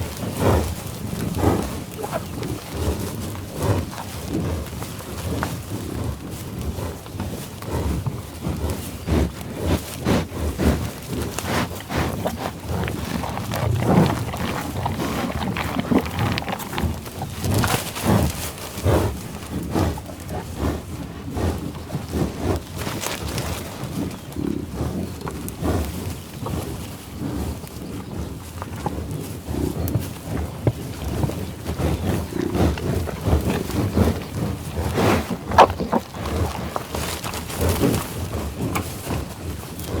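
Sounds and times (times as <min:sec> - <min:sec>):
buffaloes growling and lowing: 0:00.0 - 0:40.0.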